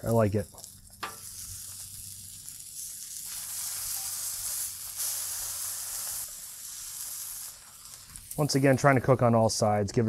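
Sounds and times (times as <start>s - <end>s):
meat sizzling on a griddle: 0.0s - 9.2s.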